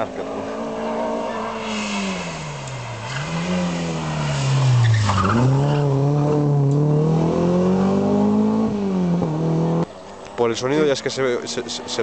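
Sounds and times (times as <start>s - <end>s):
rally car engine accelerating: 0.0s - 9.9s.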